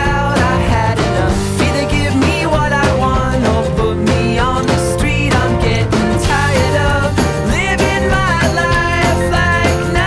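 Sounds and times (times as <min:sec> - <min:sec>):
band music with steady beat: 0:00.0 - 0:10.0.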